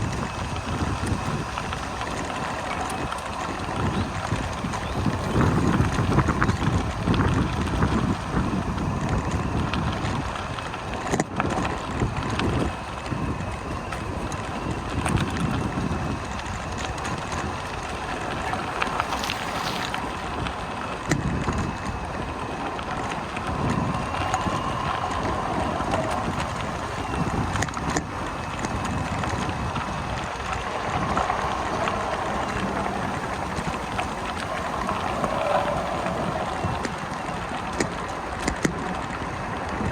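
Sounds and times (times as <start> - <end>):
bicycle ride rumble and rattle: 0.0 - 39.9
wind buffeting microphone: 0.0 - 39.9.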